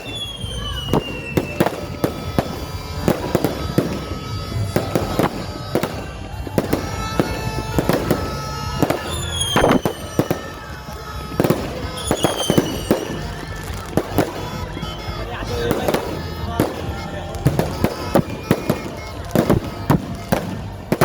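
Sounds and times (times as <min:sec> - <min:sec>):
fireworks banging and crackling: 0:00.0 - 0:21.0
whistling firework: 0:00.0 - 0:21.0.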